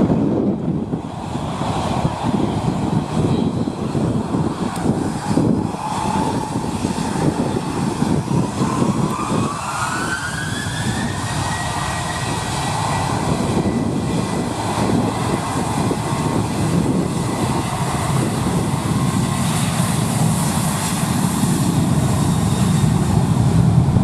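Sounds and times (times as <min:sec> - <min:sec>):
jet engine whine rising: 0:00.0 - 0:24.0
jet engines rumbling: 0:00.0 - 0:24.0.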